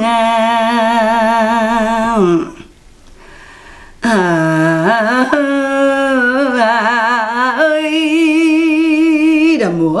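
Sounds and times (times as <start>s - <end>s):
woman singing unaccompanied: 0.0s - 2.8s, 4.0s - 10.0s.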